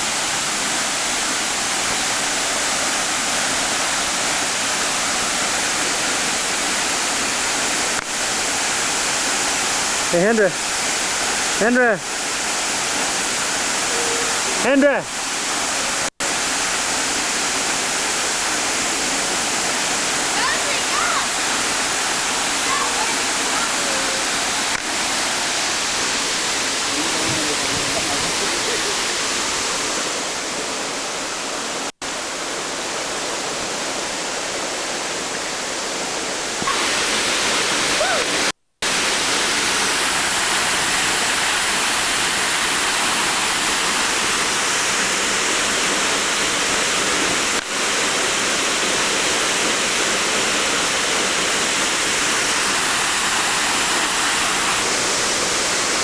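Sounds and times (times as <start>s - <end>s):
rush of falling water: 0.0s - 56.0s.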